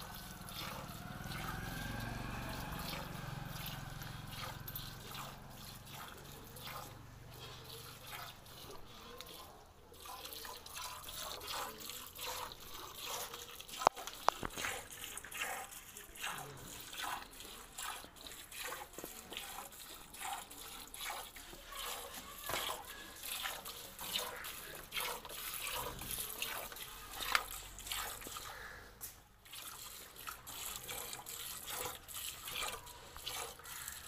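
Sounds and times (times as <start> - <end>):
milk squirting into bucket: 0.0 - 34.0.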